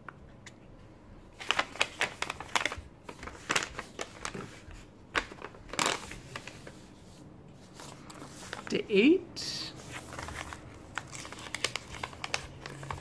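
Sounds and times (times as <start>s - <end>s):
paper rustling: 1.4s - 8.8s, 9.8s - 13.0s.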